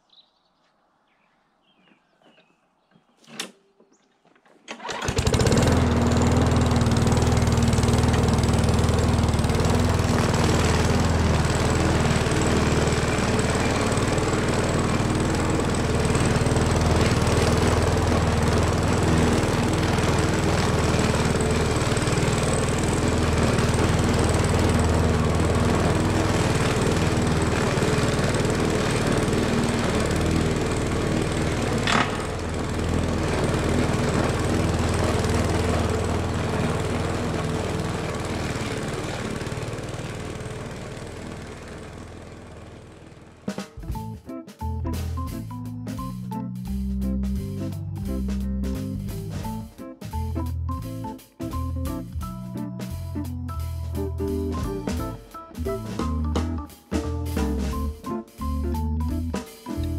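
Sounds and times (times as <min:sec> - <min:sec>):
excavator diesel engine running: 0:04.7 - 0:59.9.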